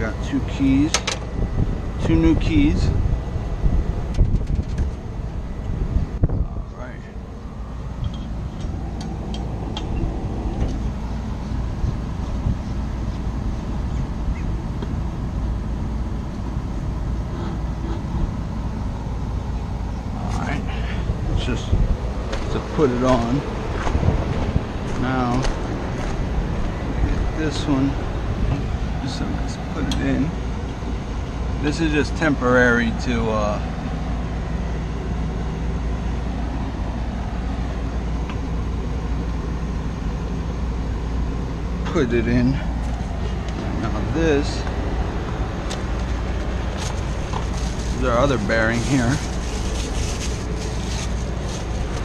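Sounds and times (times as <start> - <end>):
machinery droning with low hum: 0.0 - 52.0.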